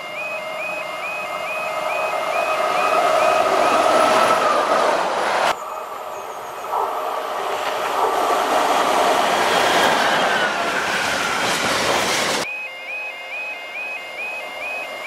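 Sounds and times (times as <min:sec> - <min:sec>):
freight train passing: 0:00.0 - 0:15.0.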